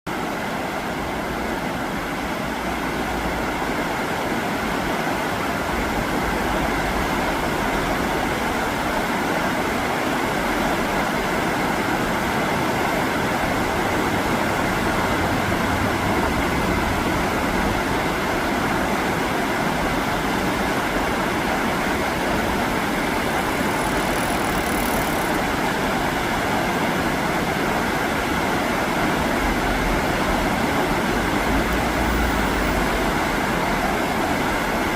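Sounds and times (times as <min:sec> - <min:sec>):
river current rushing: 0:00.1 - 0:34.9.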